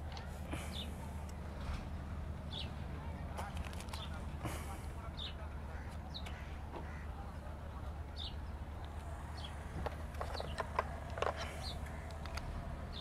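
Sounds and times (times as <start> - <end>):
low steady background rumble: 0.0 - 13.0.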